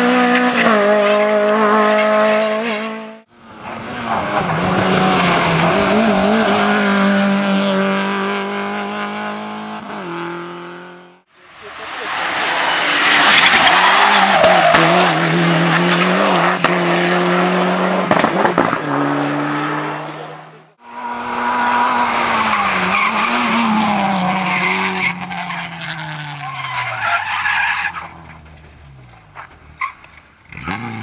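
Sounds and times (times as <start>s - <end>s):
rally car engines under hard load: 0.0s - 31.0s
tyres skidding: 3.3s - 31.0s.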